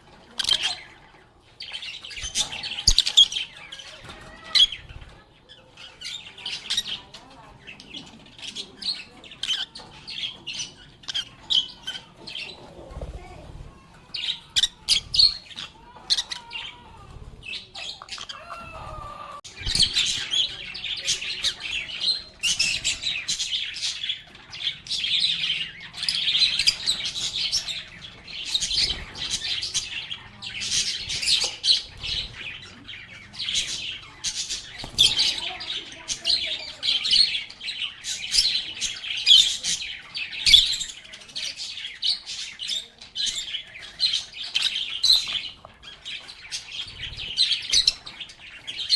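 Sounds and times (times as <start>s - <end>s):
lovebirds chattering: 0.0s - 48.9s.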